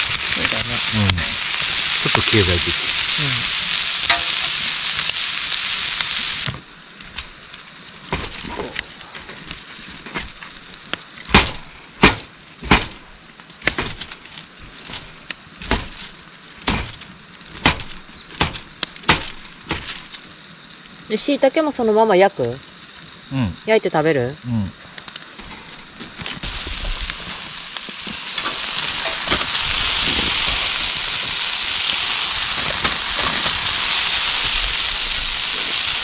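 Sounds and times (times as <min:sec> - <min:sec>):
skewers sizzling on griddle: 0:00.0 - 0:36.0.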